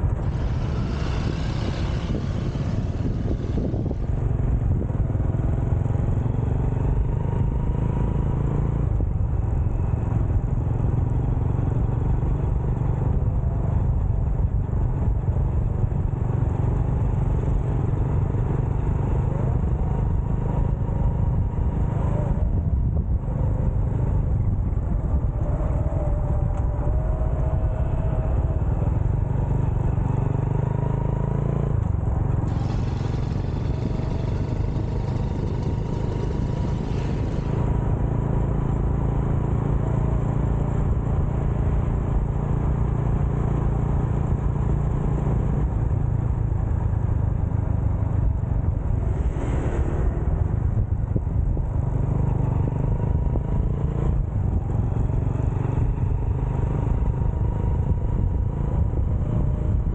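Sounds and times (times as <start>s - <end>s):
motorcycle engine: 0.0s - 59.9s
wind rumbling on microphone: 0.0s - 59.9s.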